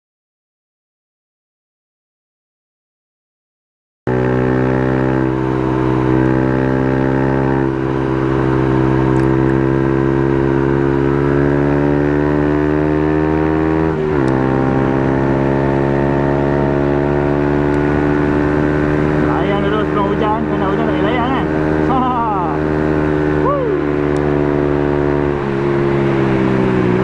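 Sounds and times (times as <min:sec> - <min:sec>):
motorcycle engine running: 0:04.1 - 0:27.0.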